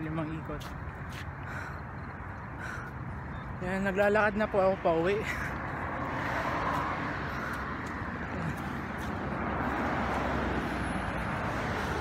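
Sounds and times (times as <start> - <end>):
cars passing on a road: 0.0 - 12.0.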